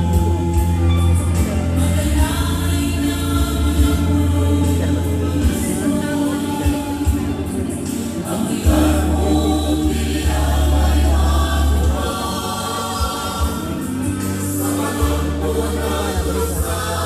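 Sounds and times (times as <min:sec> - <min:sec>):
choir singing held chords: 0:00.0 - 0:17.0
sustained bass: 0:00.0 - 0:17.0.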